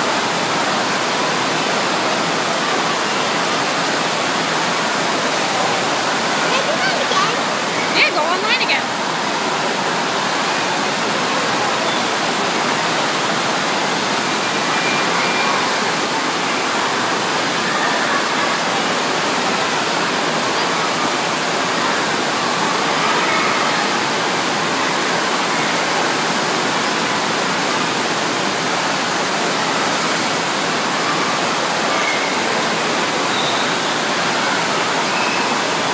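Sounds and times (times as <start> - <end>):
rushing water on a slope: 0.0 - 35.9.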